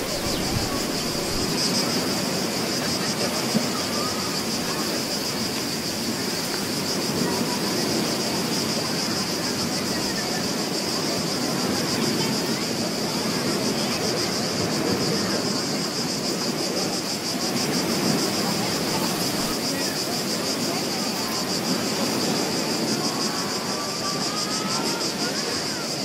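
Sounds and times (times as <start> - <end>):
high-pitched pulsing hiss: 0.0 - 26.0
ocean surf washing: 0.0 - 26.0.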